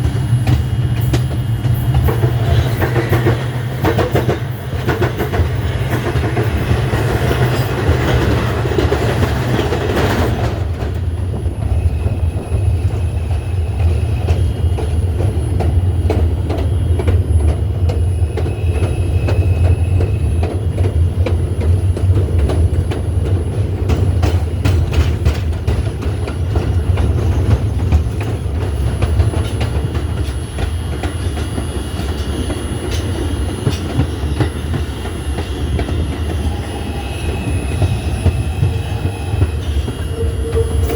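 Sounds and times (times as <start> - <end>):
subway train rumbling: 0.0 - 40.9
wheels clacking over rail joints: 0.0 - 40.9.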